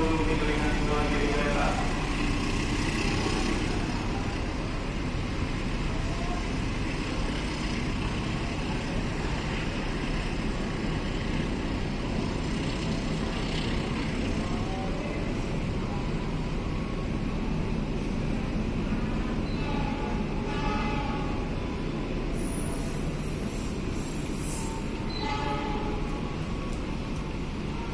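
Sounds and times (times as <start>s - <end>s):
train rumbling: 0.0s - 27.9s.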